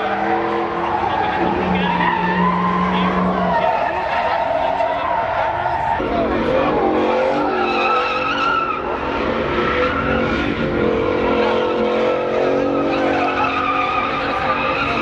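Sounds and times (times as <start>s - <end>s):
spinning tyres squealing: 0.0s - 15.0s
truck engine at high revs: 0.0s - 15.0s.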